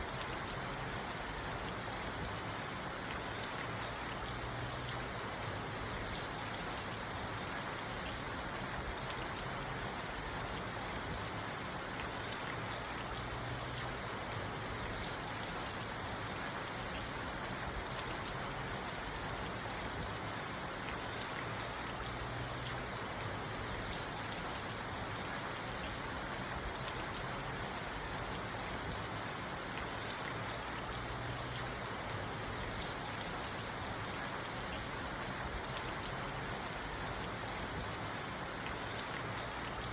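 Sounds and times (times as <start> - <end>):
rain on car heard from inside: 0.0 - 39.9.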